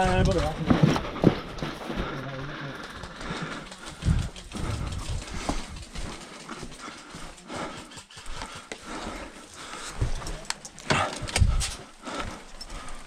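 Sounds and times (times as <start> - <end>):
footsteps and gear thumps: 0.0 - 2.2, 2.9 - 13.0.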